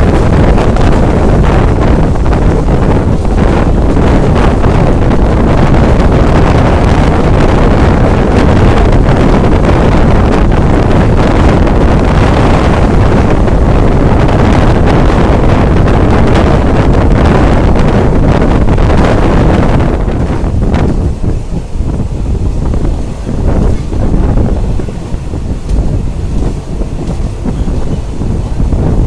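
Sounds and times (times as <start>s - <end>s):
train rumbling: 0.0s - 29.0s
wind buffeting microphone: 0.0s - 29.0s.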